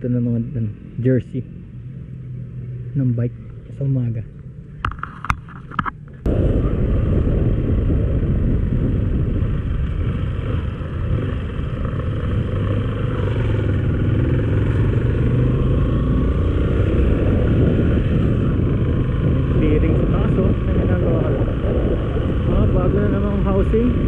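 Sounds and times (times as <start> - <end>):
road and wind noise: 0.0 - 24.0
motorcycle engine running: 0.7 - 24.0.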